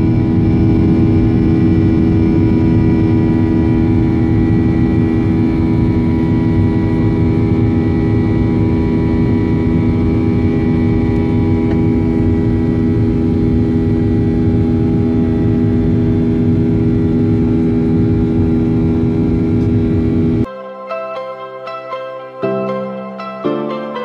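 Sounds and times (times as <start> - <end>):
jet engine and air noise in cabin: 0.0 - 20.5
steady humming tones: 0.0 - 20.5.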